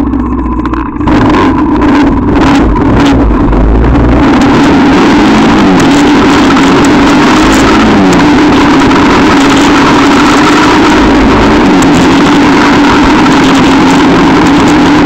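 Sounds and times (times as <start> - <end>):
quad bike engine running: 0.0 - 15.0
wind and tyre noise: 0.0 - 15.0.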